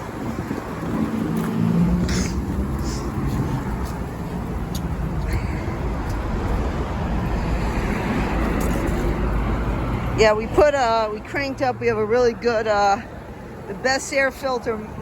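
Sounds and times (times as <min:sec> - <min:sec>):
road traffic rumble: 0:00.0 - 0:15.0
wind gusting on microphone: 0:00.0 - 0:15.0.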